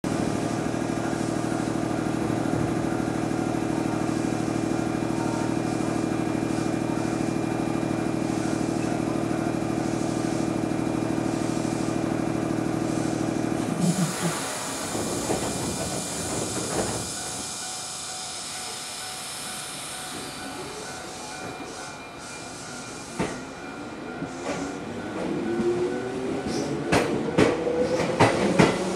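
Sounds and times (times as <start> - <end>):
electric train equipment hum: 0.1 - 28.9.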